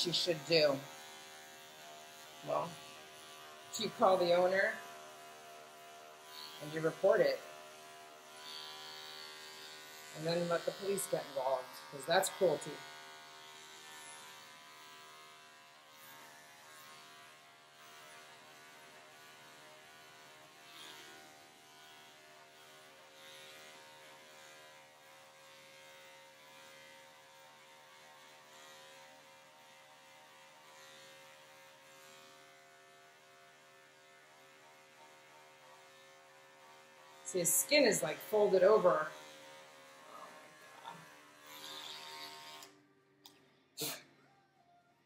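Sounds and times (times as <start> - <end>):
electric clipper humming: 0.0 - 44.0.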